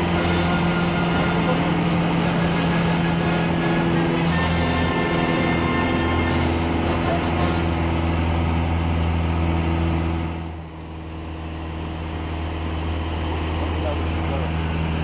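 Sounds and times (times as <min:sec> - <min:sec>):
light aircraft engine droning: 0:00.0 - 0:15.0.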